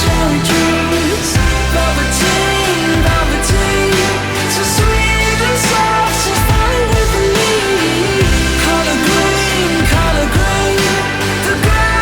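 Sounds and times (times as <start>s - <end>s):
pop music with drums: 0.0s - 12.0s.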